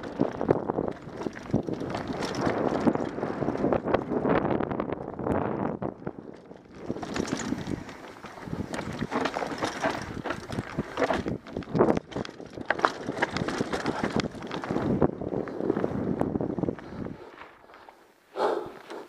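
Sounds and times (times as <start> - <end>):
bike clattering and rattling: 0.0 - 18.0
bike tyres crunching over stones: 0.0 - 18.0
wind buffeting microphone: 0.0 - 19.0.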